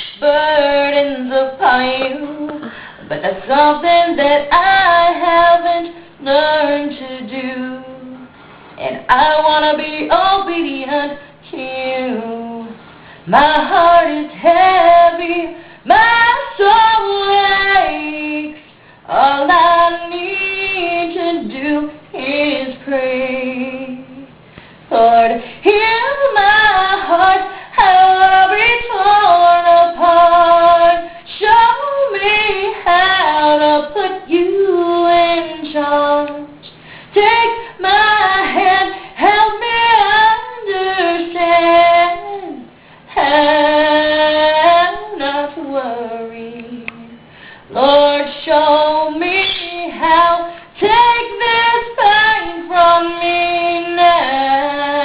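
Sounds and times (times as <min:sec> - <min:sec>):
high wordless singing voice: 0:00.0 - 0:55.0.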